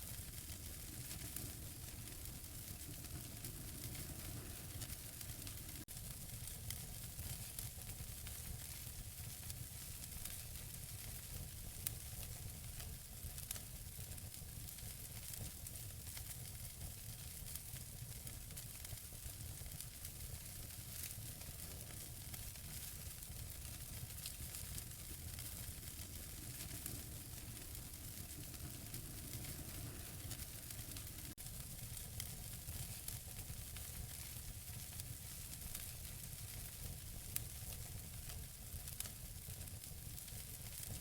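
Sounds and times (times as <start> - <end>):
wood fire hissing: 0.0 - 41.0
logs crackling and popping: 0.1 - 13.7, 14.8 - 41.0.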